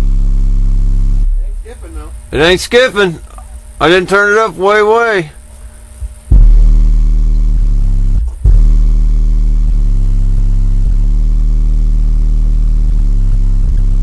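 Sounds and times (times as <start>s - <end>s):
deep bass note from subwoofers: 0.0s - 14.0s.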